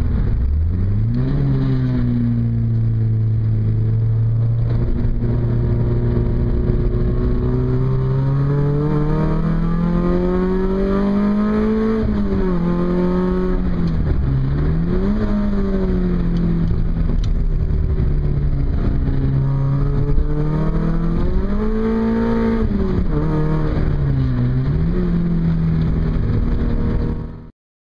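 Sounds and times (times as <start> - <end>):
car engine accelerating: 0.0 - 27.5.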